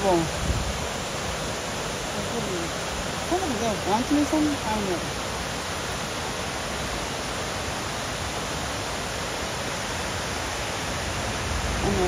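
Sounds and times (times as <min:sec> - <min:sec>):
water pouring down rock cascades: 0:00.0 - 0:12.0.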